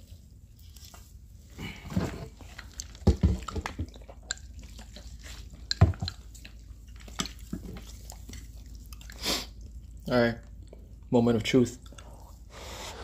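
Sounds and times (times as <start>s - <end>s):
chopsticks stirring noodles in soup: 0.0s - 11.0s
broth dripping and squelching: 0.0s - 12.6s.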